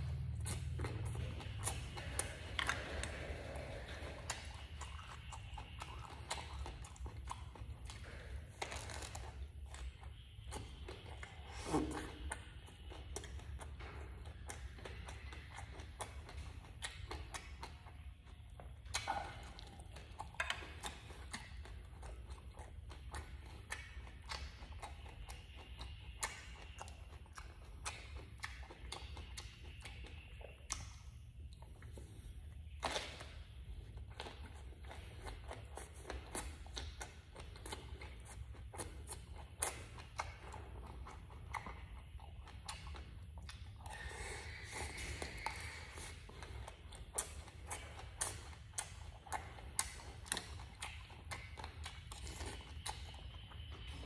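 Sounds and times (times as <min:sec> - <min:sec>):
low hum: 0:00.0 - 0:54.0
wet chewing and mouth clicks: 0:00.0 - 0:54.0.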